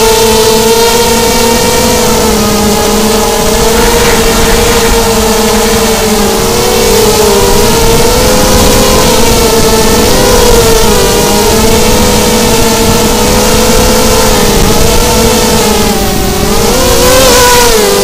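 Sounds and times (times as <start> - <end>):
drone motors buzzing: 0.0 - 18.0.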